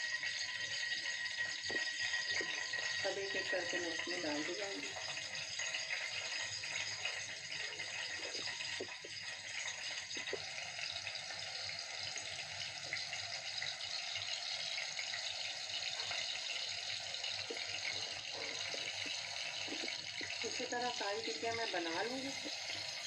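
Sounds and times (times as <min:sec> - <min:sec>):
meat sizzling in hot oil: 0:00.0 - 0:23.0
oil popping and crackling: 0:00.0 - 0:23.0.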